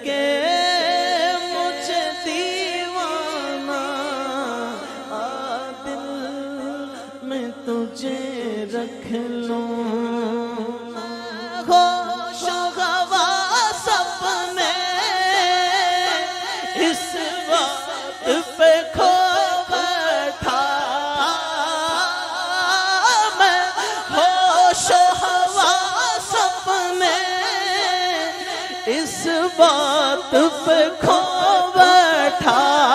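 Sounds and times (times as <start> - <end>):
man singing in long notes: 0.0 - 32.9.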